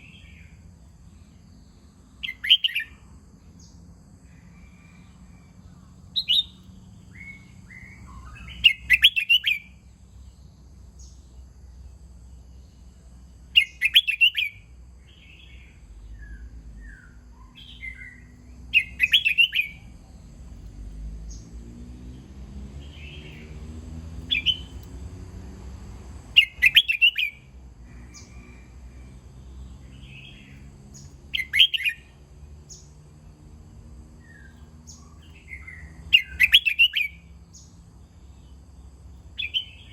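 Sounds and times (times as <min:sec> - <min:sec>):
bird singing warbled phrases: 0:00.0 - 0:03.9, 0:05.7 - 0:25.0, 0:26.2 - 0:27.5, 0:29.6 - 0:33.1, 0:34.2 - 0:39.9
soft bird chirps: 0:00.0 - 0:28.6, 0:29.4 - 0:39.9.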